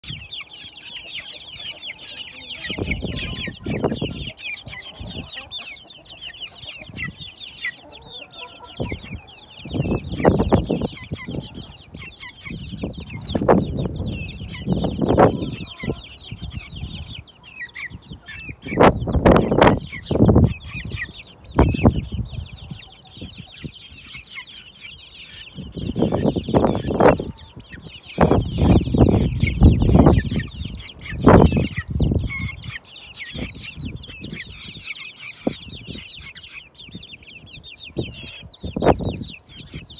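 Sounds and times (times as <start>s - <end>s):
young chickens cheeping: 0.0s - 39.9s.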